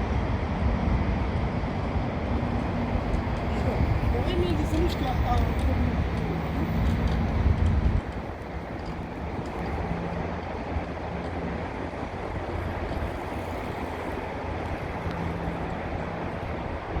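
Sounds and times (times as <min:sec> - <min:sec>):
ship engine humming: 0:00.0 - 0:17.0
wind and water rushing: 0:00.0 - 0:17.0.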